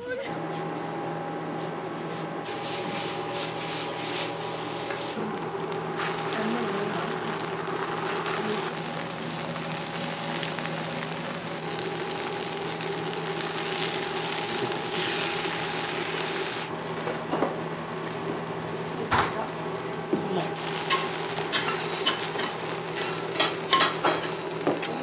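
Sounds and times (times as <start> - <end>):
batter sizzling on a griddle: 2.5 - 25.0.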